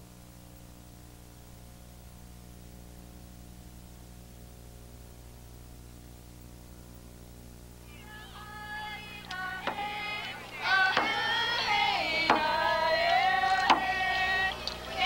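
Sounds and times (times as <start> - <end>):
background hiss: 0.0 - 15.0
faint low hum: 0.0 - 15.0.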